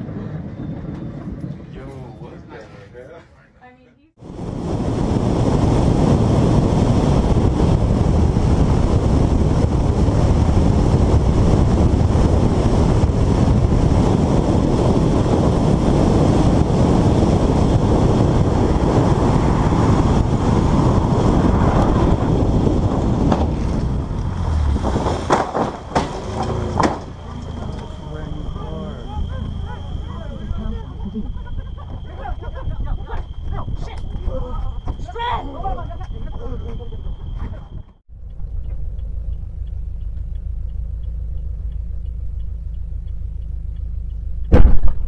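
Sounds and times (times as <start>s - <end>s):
car road and wind noise: 0.0s - 2.9s, 4.1s - 45.0s.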